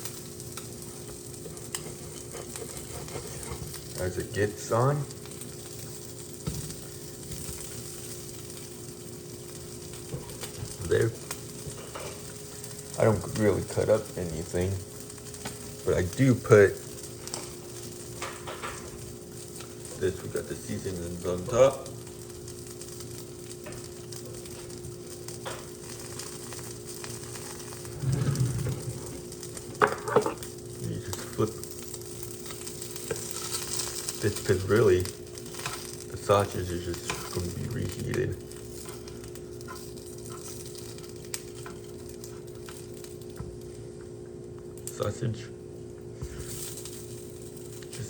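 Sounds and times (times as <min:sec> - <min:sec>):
food sizzling in a frying pan: 0:00.0 - 0:48.0
steady hum: 0:00.0 - 0:48.0.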